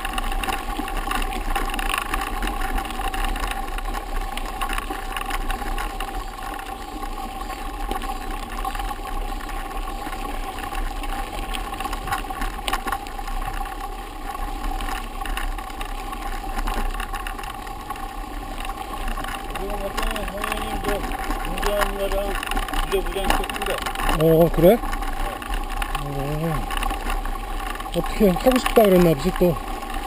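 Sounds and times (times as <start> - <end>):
bike tyres rumbling on gravel: 0.0 - 30.0.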